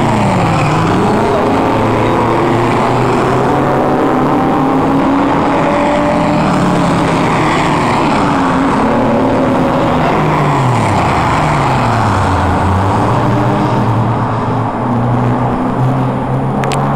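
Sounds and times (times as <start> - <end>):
car engines driving past: 0.0 - 16.9.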